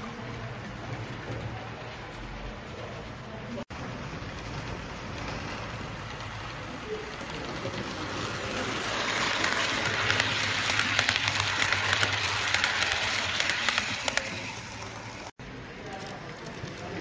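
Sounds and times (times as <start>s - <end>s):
model train wheels on rail: 0.0s - 17.0s.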